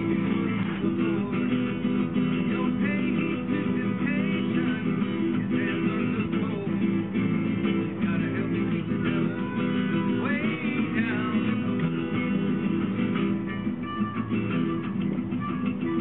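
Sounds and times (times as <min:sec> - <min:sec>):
acoustic guitar strummed and picked: 0:00.0 - 0:16.0.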